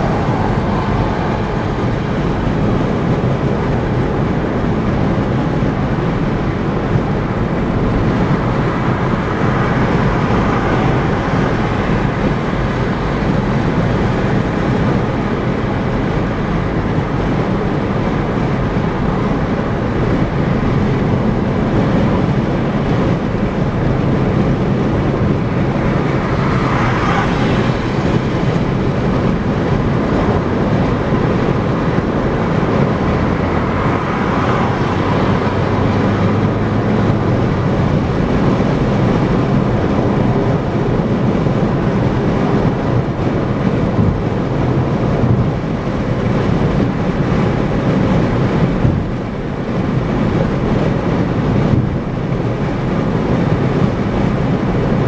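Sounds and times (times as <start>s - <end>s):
car tyre and wind noise: 0.0s - 55.0s.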